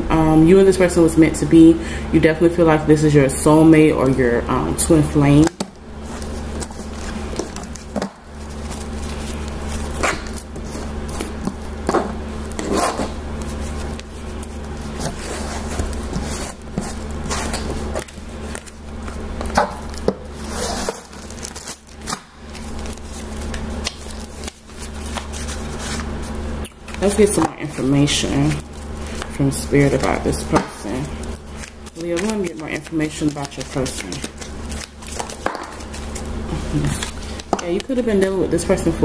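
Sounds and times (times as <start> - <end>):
low room hum: 0.0 - 39.0
cards being shuffled: 4.9 - 38.8.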